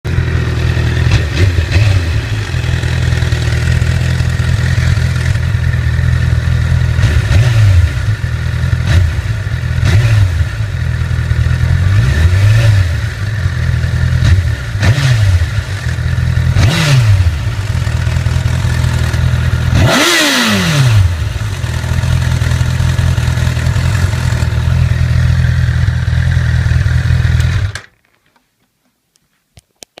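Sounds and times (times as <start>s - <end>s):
engine revving: 0.1s - 27.9s
motorcycle engine idling with rattle: 0.1s - 28.5s.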